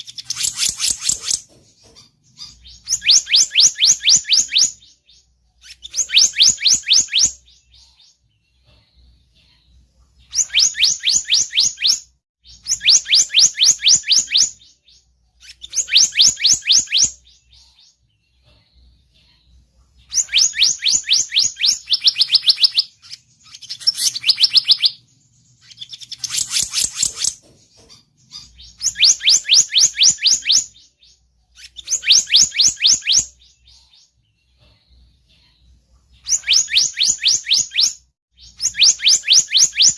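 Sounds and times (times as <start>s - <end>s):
bird rapid rising chirps: 0.0s - 8.2s, 10.2s - 18.0s, 20.0s - 34.2s, 36.2s - 39.9s.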